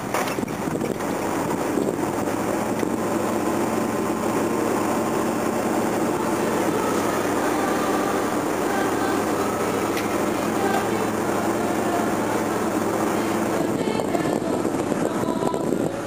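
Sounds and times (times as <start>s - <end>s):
engine running under load: 0.0s - 16.0s.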